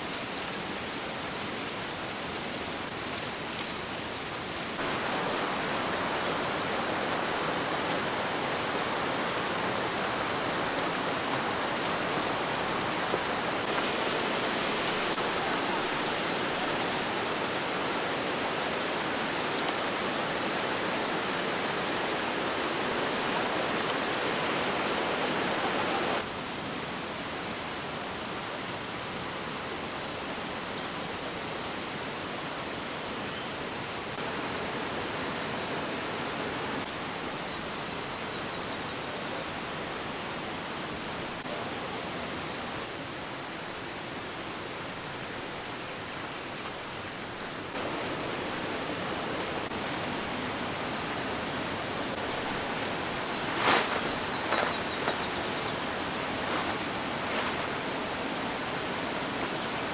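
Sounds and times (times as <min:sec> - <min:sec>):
rushing stream: 0:00.0 - 0:59.9.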